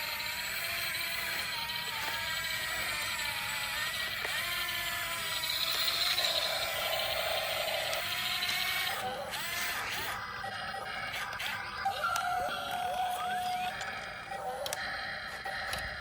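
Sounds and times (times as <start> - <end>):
toy motor and gears whirring: 0.0 - 16.0.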